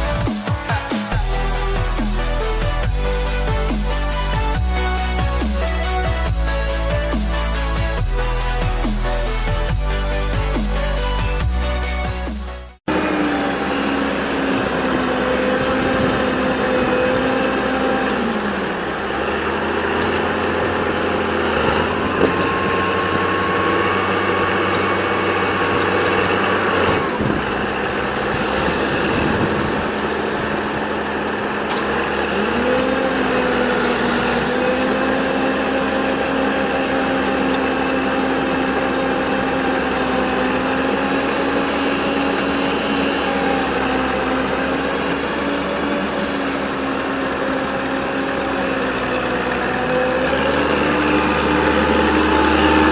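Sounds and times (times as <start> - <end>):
machine engine running: 0.0 - 52.9.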